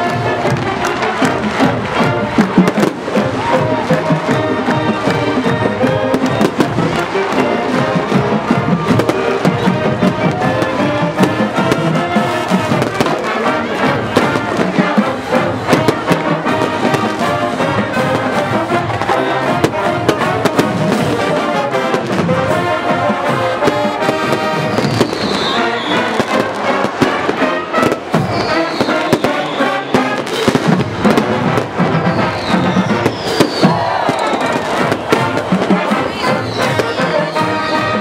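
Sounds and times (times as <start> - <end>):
brass band playing loudly: 0.0 - 38.0
fireworks banging and crackling: 0.0 - 38.0.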